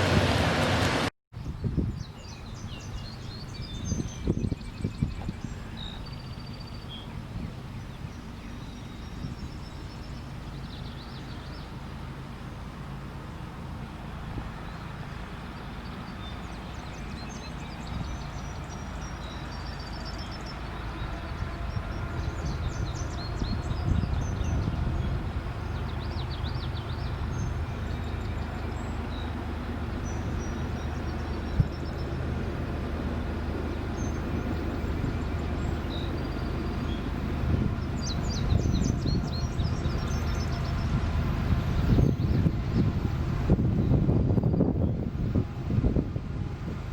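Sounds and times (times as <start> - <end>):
freight train rumbling past: 0.0 - 4.2, 5.3 - 46.9
birds chirping: 1.4 - 12.3, 13.3 - 46.0.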